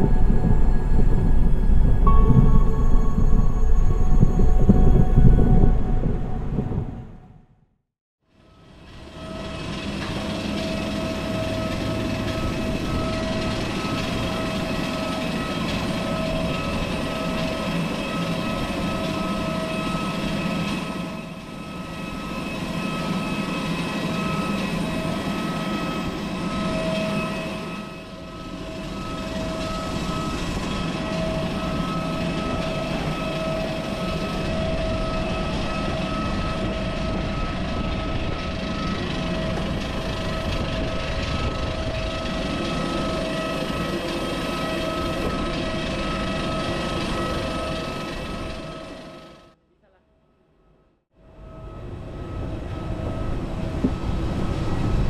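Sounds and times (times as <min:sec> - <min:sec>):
jet airliner whine and hum: 0:00.0 - 0:07.4, 0:08.3 - 0:49.6, 0:51.2 - 0:55.0.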